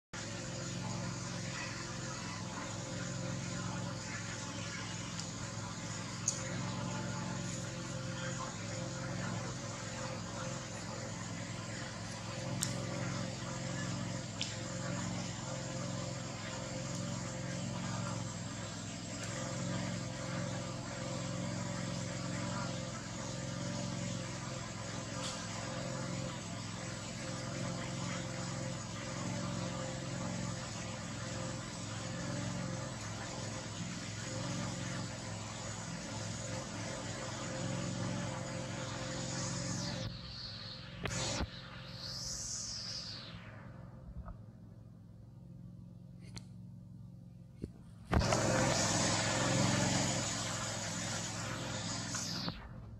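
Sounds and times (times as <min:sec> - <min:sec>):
low mechanical drone: 0:00.0 - 0:52.9
motor humming: 0:00.0 - 0:52.9
hiss: 0:00.2 - 0:43.6, 0:48.1 - 0:52.6.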